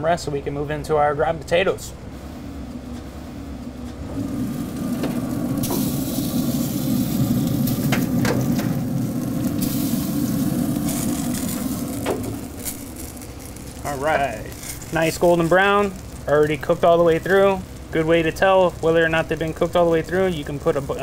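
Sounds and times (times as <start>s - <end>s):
grill fan and burning pellets: 0.0s - 21.0s.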